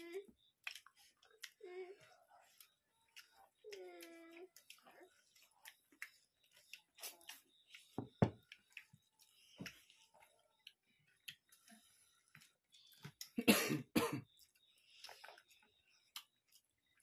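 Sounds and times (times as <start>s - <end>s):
mouth clicks and chewing: 0.0s - 13.4s, 14.2s - 17.0s.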